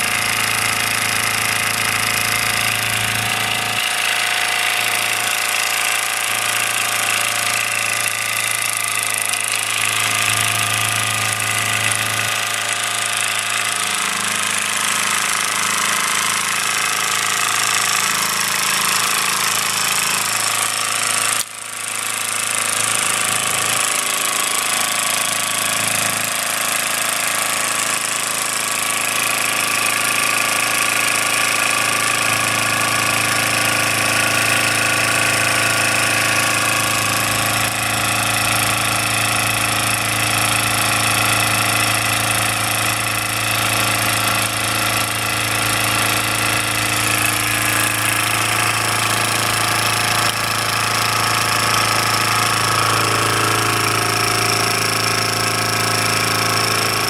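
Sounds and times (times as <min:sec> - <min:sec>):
model steam engine running: 0:00.0 - 0:57.0.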